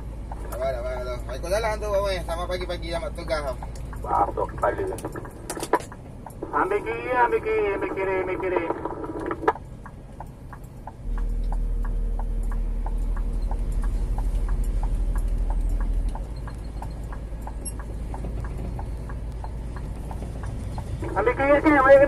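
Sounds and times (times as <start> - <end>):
truck diesel engine droning: 0.0 - 22.0
turn signal ticking: 0.0 - 22.0.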